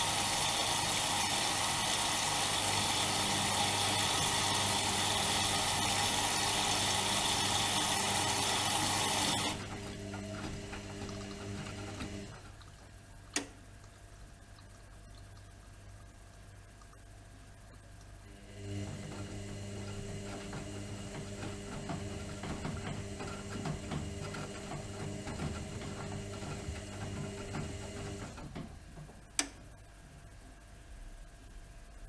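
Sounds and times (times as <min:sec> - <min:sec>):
washing machine water rushing: 0:00.0 - 0:15.1, 0:18.2 - 0:29.4
washing machine drum motor humming: 0:00.0 - 0:16.6, 0:17.9 - 0:30.6.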